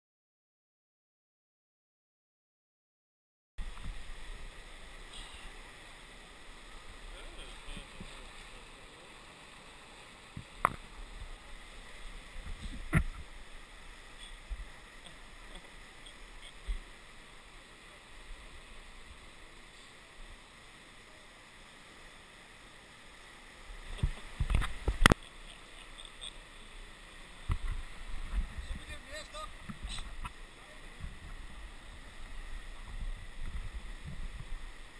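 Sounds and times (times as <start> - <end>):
river rapids rushing over rocks: 3.6 - 34.9.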